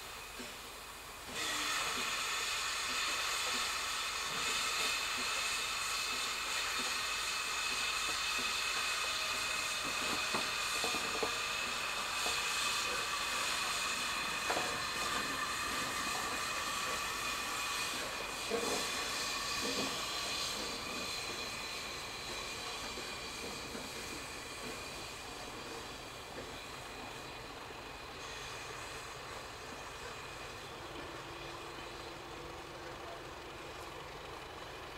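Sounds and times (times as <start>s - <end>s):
steam locomotive hissing: 0.0s - 34.9s.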